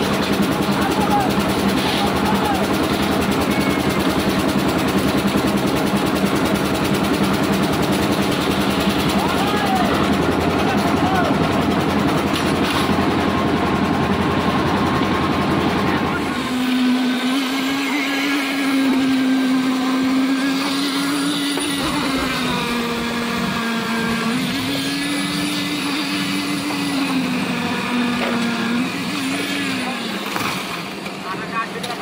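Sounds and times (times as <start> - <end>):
concrete mixer engine rumbling: 0.0 - 32.0.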